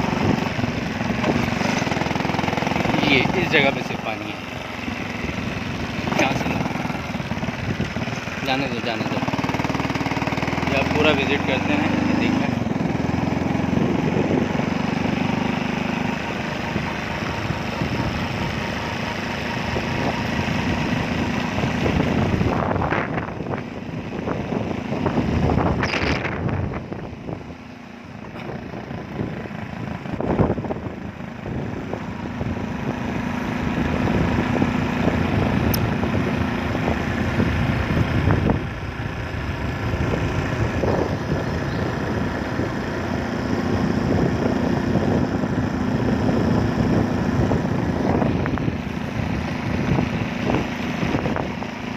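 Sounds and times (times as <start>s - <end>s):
road and wind noise: 0.0s - 51.9s
vehicle engine running: 0.0s - 51.9s.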